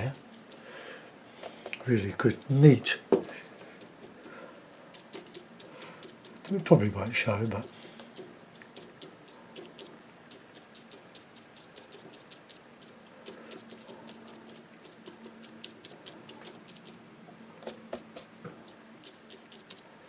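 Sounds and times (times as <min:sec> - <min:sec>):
paintbrush dabbing on paper: 0:00.0 - 0:17.0, 0:17.6 - 0:19.9.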